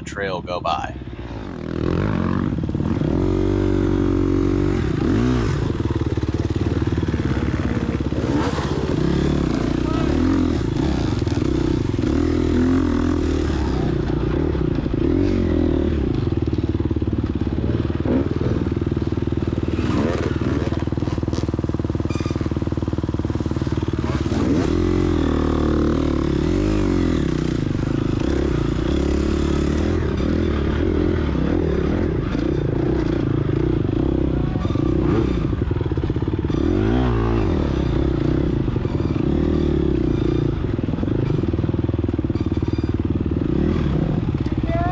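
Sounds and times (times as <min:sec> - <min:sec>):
motorcycle engine revving: 0:01.0 - 0:44.9.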